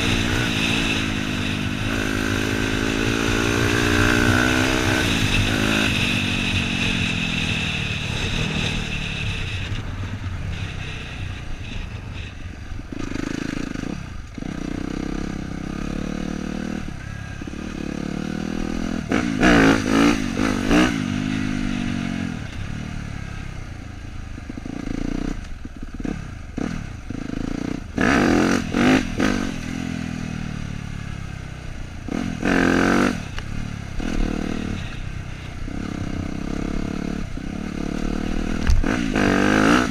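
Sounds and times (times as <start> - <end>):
dirt bike engine revving: 0.0 - 22.8, 24.4 - 39.9.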